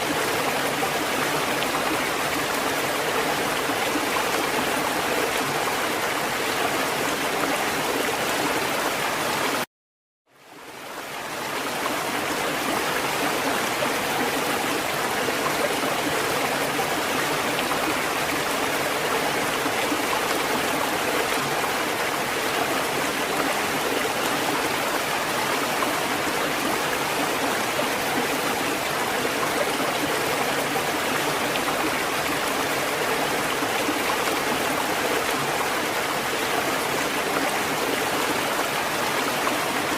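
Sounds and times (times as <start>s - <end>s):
rushing water: 0.0s - 9.7s, 10.3s - 39.9s.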